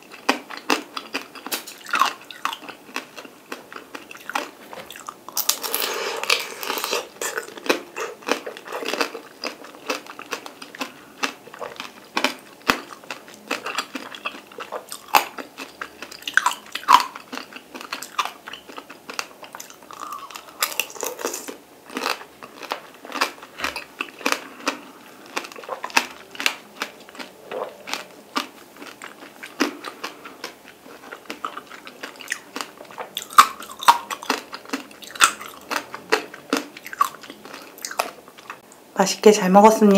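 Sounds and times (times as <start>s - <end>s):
candy shell crunching while chewed: 0.0s - 38.6s.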